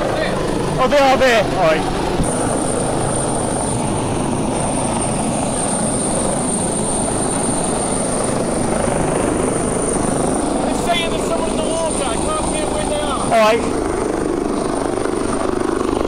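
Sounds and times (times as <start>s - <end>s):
helicopter rotor and engine: 0.0s - 16.0s.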